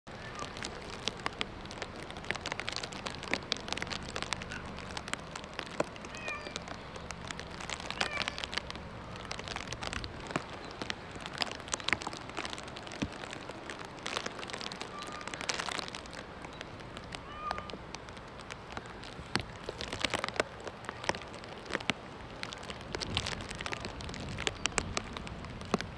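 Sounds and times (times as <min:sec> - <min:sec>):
rain falling on wet ground: 0:00.1 - 0:25.9.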